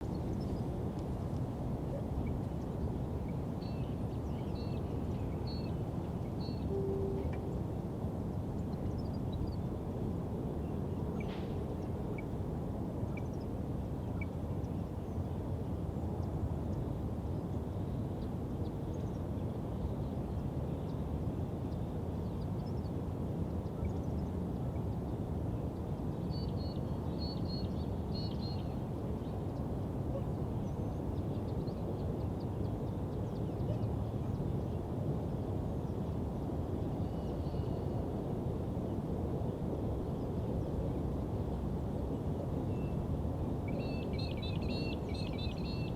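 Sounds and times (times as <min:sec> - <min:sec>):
low city rumble: 0:00.0 - 0:45.9.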